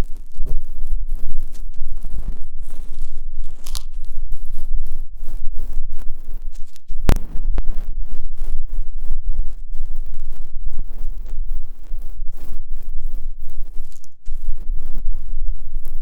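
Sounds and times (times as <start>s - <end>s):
ear pick scraping microphone: 0.0s - 16.0s.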